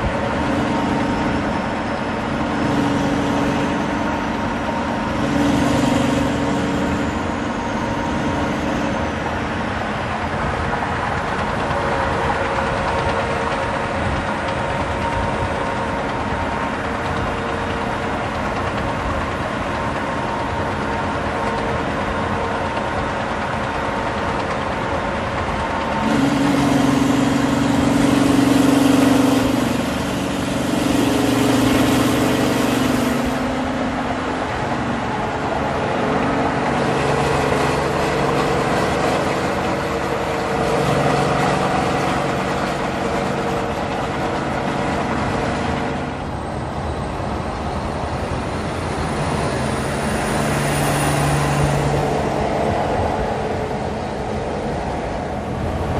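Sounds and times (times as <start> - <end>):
truck diesel engines droning: 0.0 - 55.9
tyre and wind roar: 0.0 - 55.9.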